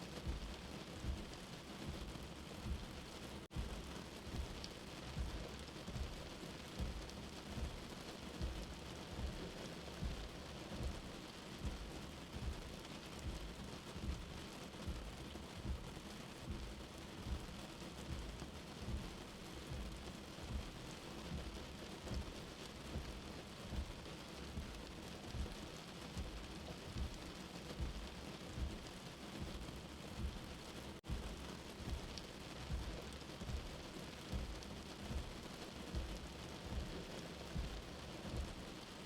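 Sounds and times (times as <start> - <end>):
steady rain: 0.0 - 39.0
heartbeat thumps: 0.1 - 38.9.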